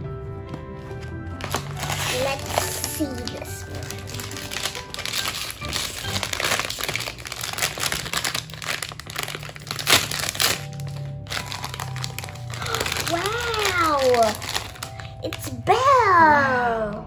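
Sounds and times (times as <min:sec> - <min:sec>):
plastic bag crinkling: 0:00.8 - 0:15.9
sharp plastic crackle: 0:00.8 - 0:16.0.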